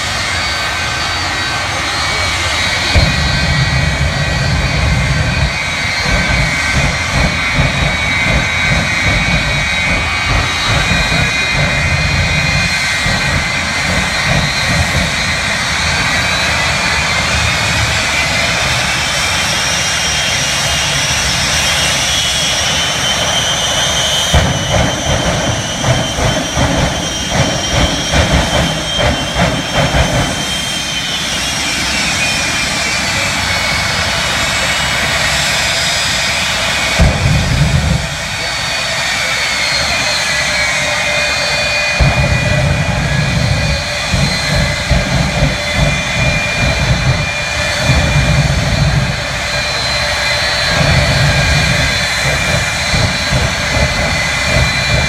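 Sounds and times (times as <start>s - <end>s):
jet engine whine: 0.0s - 55.0s
rough pulsing rumble: 0.0s - 55.0s.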